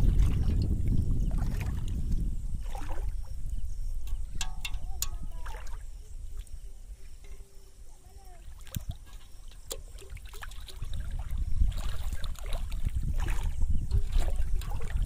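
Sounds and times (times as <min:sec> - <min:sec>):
water sloshing as person wades: 0:00.0 - 0:15.0.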